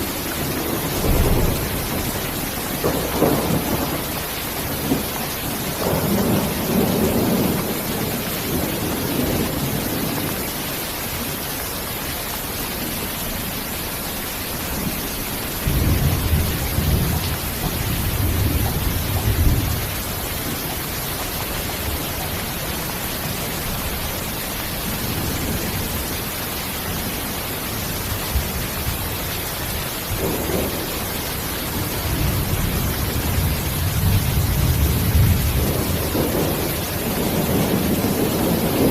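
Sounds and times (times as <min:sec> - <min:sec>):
thunder rumbling: 0:00.0 - 0:11.4, 0:14.2 - 0:38.9
steady rain: 0:00.0 - 0:38.9.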